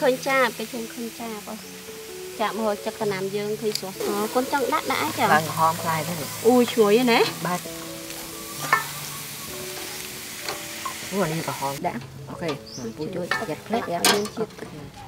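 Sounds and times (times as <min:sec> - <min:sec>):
food sizzling on a grill: 0:00.0 - 0:15.0
metal tongs turning food: 0:02.9 - 0:15.0.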